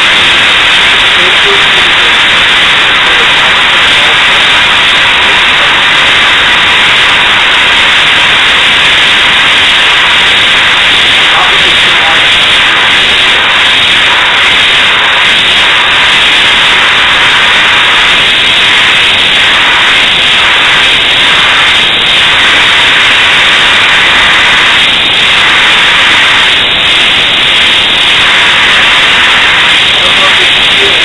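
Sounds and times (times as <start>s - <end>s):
compressed air hissing: 0.0s - 31.0s.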